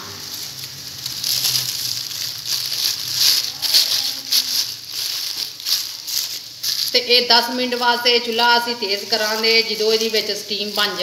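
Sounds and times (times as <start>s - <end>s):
paper crinkling and rustling: 0.0s - 11.0s.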